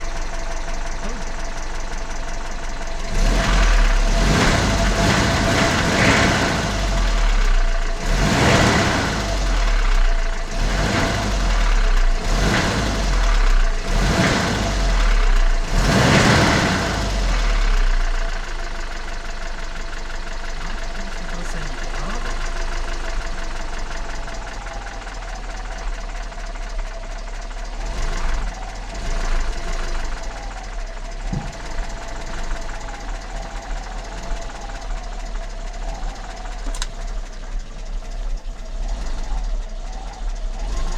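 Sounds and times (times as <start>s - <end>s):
engine knocking with throttle blips: 0.0s - 40.9s.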